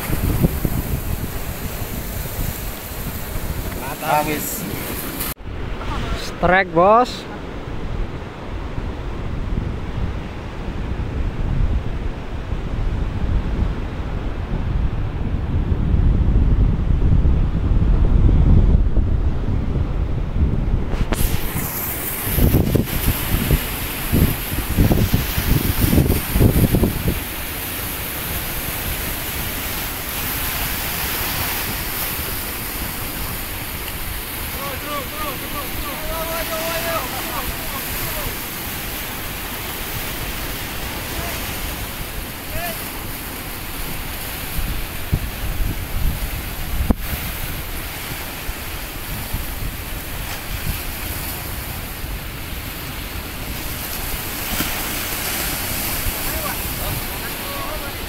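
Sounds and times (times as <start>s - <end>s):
surf breaking over rocks: 0.0s - 11.0s, 20.8s - 58.0s
wind rumbling on microphone: 0.0s - 58.0s.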